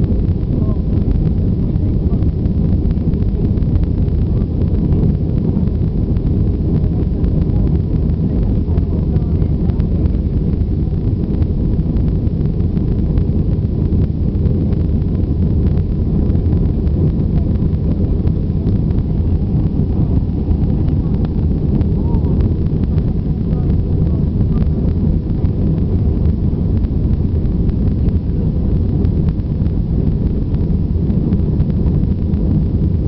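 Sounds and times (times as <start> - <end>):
aircraft engines roaring: 0.0 - 33.0
rushing air: 0.0 - 33.0.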